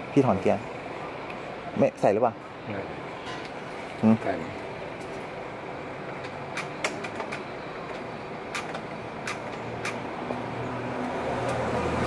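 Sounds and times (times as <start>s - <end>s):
engine low hum: 0.0s - 12.0s
steady background hum: 0.0s - 12.0s.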